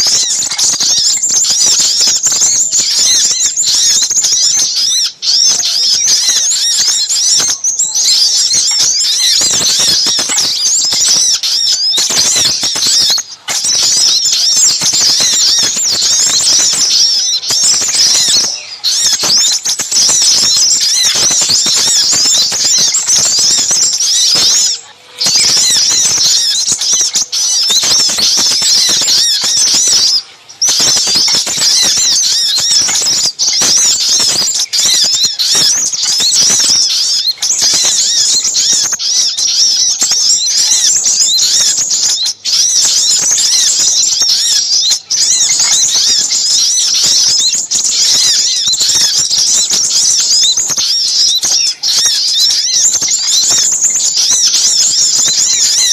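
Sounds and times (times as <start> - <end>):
songbirds chirping and twittering: 0.0 - 55.9.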